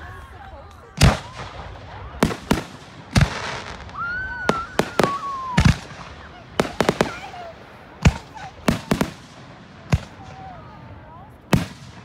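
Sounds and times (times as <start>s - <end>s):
fireworks bangs: 0.9s - 12.0s.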